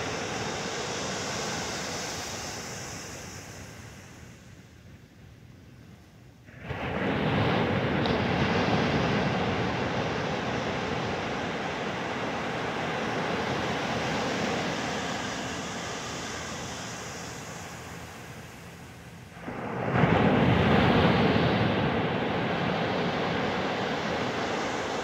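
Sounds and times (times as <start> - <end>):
waves breaking on a beach: 0.0 - 5.0, 6.5 - 25.0.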